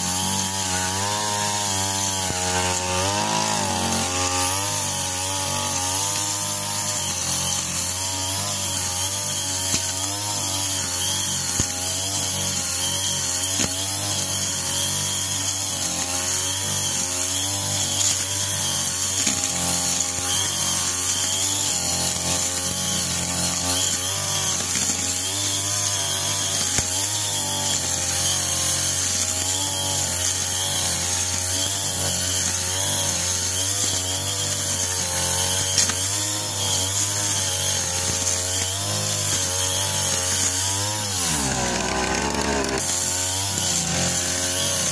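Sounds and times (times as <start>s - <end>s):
brush cutter engine high revs: 0.0s - 44.9s
trimmer head cutting grass: 0.0s - 44.9s.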